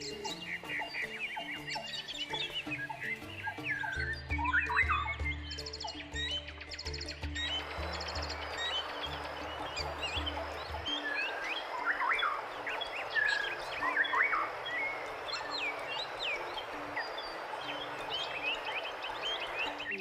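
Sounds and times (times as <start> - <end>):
birds chirping chorus: 0.0 - 20.0.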